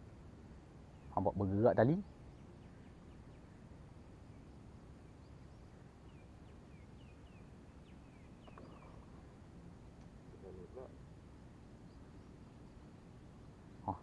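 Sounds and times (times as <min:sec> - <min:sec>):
faint bird chirps: 0:00.8 - 0:09.5, 0:10.2 - 0:14.0.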